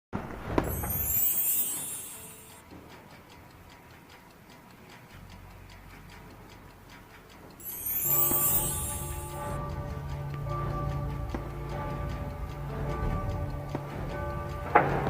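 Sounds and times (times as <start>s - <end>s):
clock ticking: 0.2s - 15.0s
music: 0.6s - 15.0s.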